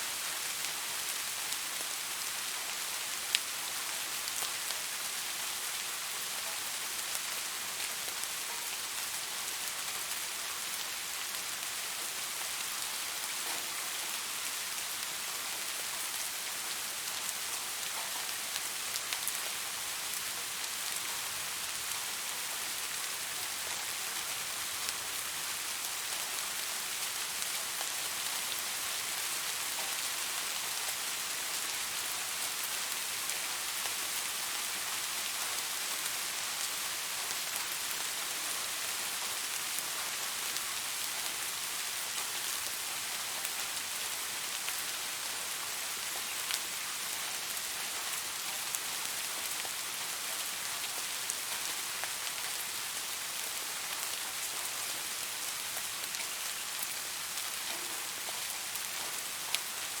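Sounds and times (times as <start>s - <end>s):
rain pattering: 0.1s - 60.0s.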